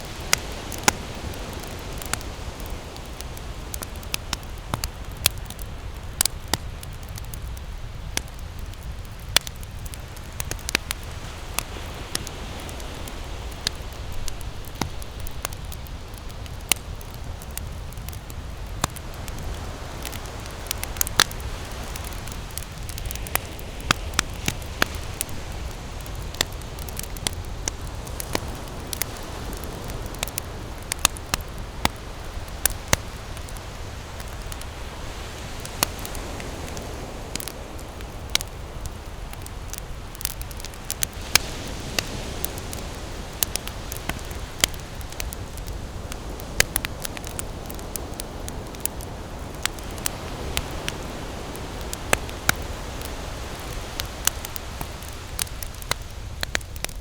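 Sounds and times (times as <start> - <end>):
campfire snaps and pops: 0.0 - 57.0
hiss of flames: 0.0 - 57.0.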